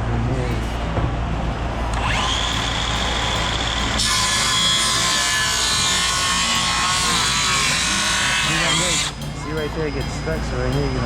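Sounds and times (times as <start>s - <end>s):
circular saw whine: 0.0s - 11.0s
saw cutting through wood: 0.4s - 11.0s.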